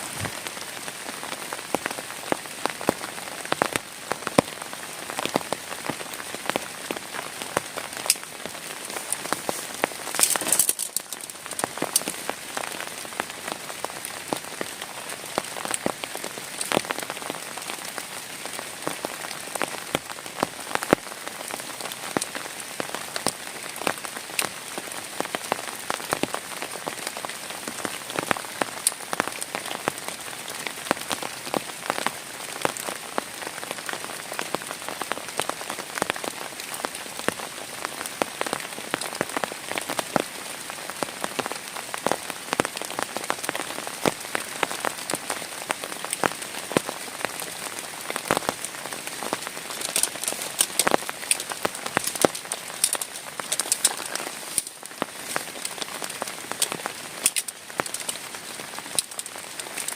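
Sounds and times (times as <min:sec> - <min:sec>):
heavy rain hissing: 0:00.0 - 0:59.9
raindrops ticking close by: 0:00.0 - 0:59.9.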